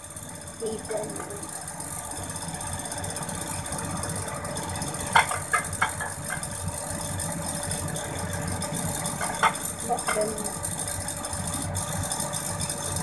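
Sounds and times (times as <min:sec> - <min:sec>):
broiler whirring: 0:00.0 - 0:13.0.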